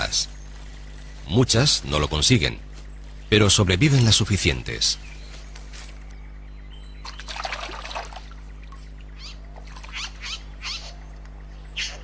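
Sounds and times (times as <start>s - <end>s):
birds calling: 0.0s - 12.0s
steady low hum: 0.0s - 12.0s.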